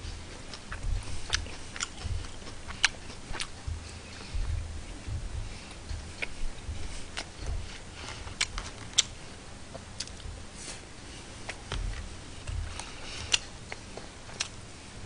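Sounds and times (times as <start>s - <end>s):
chewing and handling thuds: 0.0s - 14.7s.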